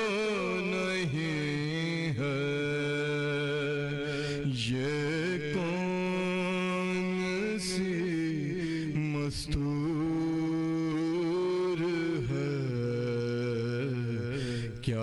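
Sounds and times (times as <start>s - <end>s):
man chanting elegy: 0.0s - 15.0s.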